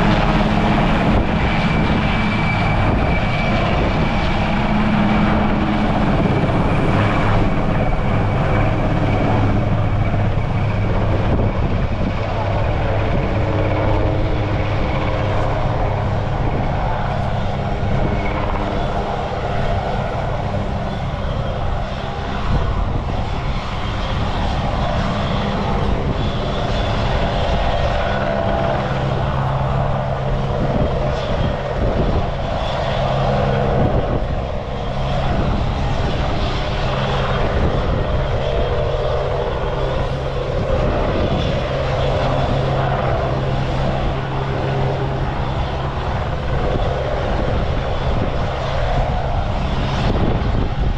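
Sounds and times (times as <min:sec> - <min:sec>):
helicopter engine and rotor drone: 0:00.0 - 0:50.9.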